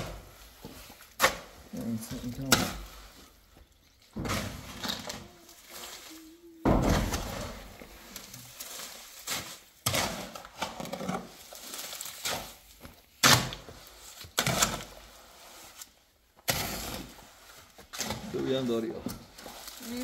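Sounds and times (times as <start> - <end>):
shovel scraping wet mortar: 0.0 - 20.0.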